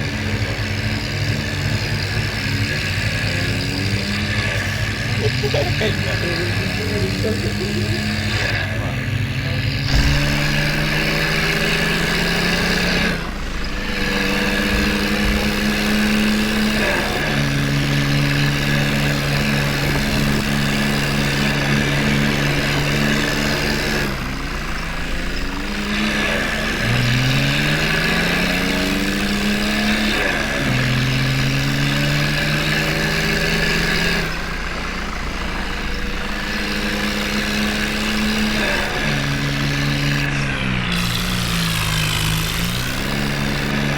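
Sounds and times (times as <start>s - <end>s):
diesel engine revving under load: 0.0s - 43.9s.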